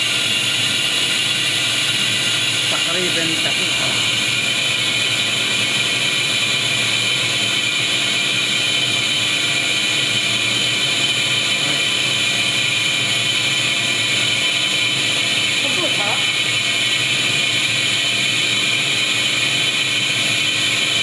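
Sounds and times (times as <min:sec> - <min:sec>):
machine whirring with hiss: 0:00.0 - 0:21.0.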